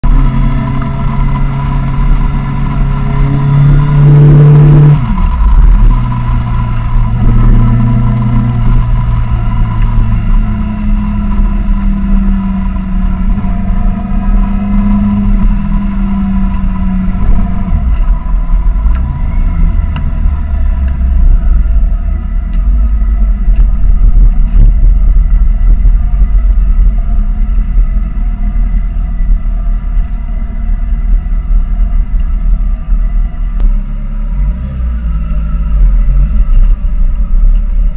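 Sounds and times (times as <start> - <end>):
motorcycle engine while riding: 0.0 - 37.9.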